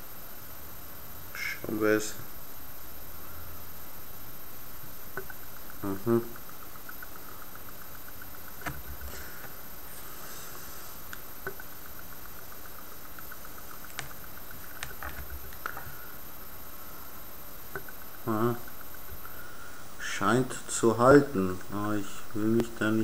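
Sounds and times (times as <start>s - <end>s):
faint fast ticking: 0.0s - 23.0s.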